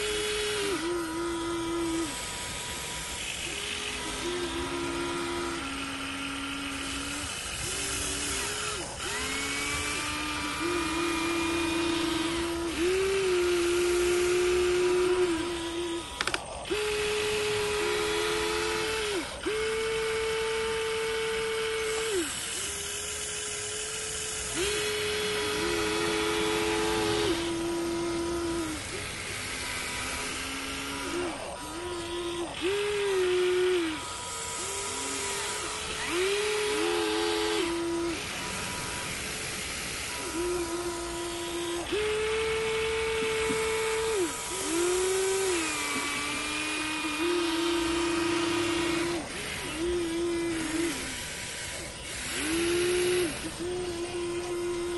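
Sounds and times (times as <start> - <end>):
toy excavator electric motors whining: 0.0 - 54.9.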